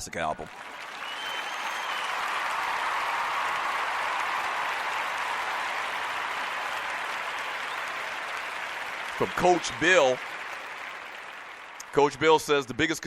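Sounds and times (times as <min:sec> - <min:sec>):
applause: 0:00.4 - 0:13.0.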